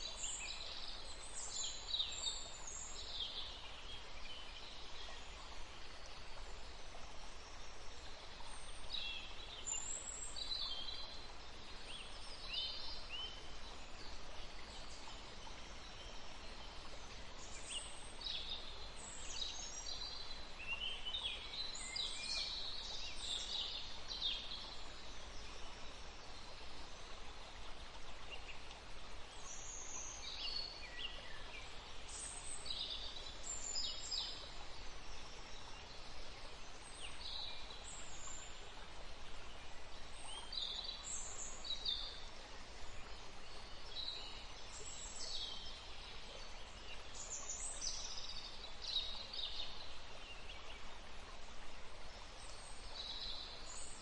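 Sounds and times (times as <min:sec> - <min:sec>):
forest stream hissing: 0:00.0 - 0:54.0.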